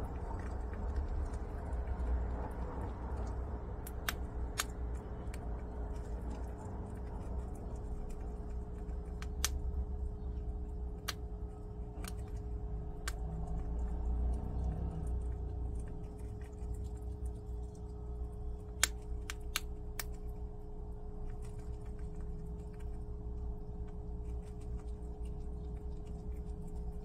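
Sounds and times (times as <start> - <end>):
animal crunching dry beans: 0.0 - 27.0
low background hum: 0.0 - 27.0.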